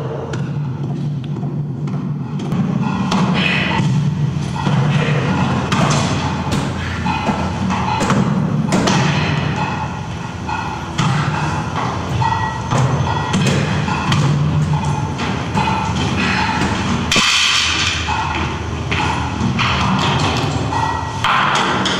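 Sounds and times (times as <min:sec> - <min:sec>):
steady low hum: 0:00.0 - 0:21.9
heavy thumps and knocks: 0:00.3 - 0:21.9.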